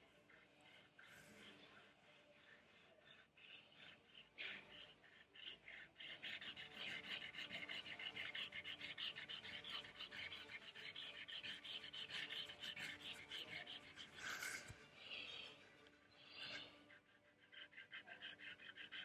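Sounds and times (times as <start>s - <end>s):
drawing stick scribbling on paper: 2.5s - 19.0s.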